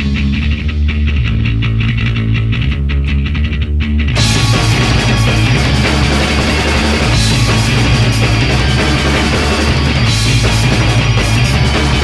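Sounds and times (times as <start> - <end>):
loud rock band music: 0.0 - 2.8, 4.0 - 12.0.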